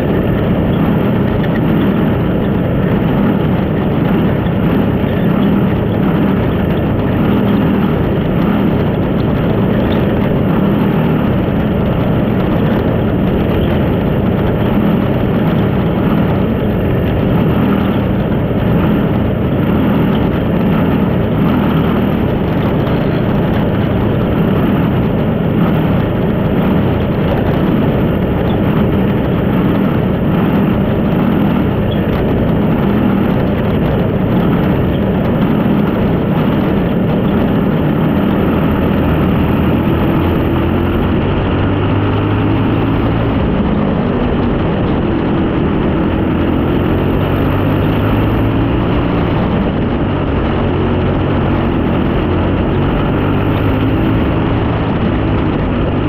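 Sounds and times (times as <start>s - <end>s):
race car engine running hard: 0.0s - 56.0s
track noise: 0.0s - 56.0s
wind rush: 0.0s - 56.0s.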